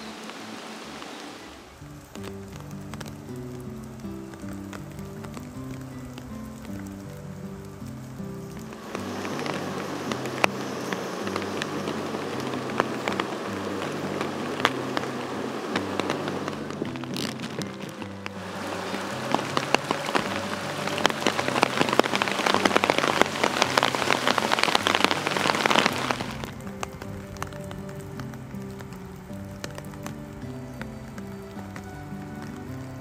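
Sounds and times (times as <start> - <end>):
rain falling: 0.0 - 33.0
raindrops hitting close by: 0.0 - 33.0.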